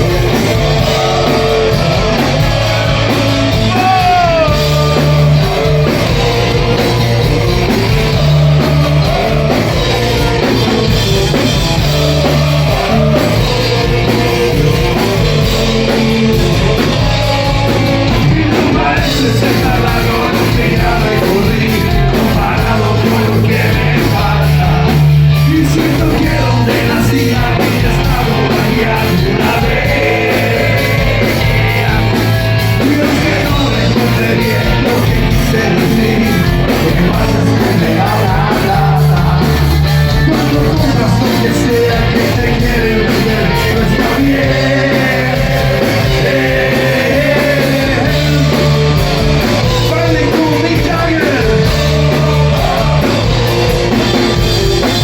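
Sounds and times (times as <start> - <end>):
loud rock music with singer: 0.0 - 55.0.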